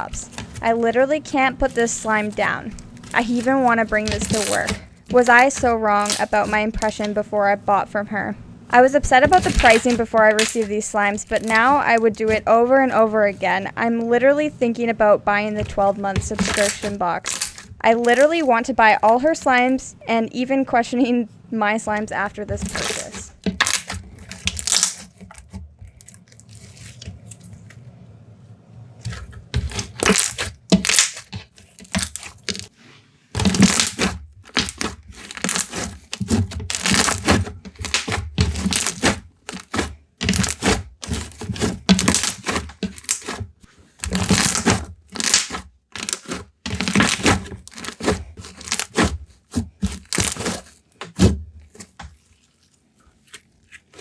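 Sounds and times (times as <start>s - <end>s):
slime clicking and crackling: 0.0s - 7.4s, 8.8s - 13.7s, 15.5s - 19.8s, 22.2s - 27.6s, 29.1s - 32.7s, 33.4s - 43.4s, 44.0s - 50.8s, 51.7s - 54.0s.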